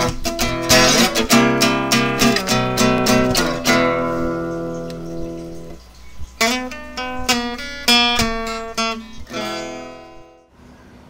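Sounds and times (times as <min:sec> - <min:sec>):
strummed acoustic guitar: 0:00.0 - 0:10.5.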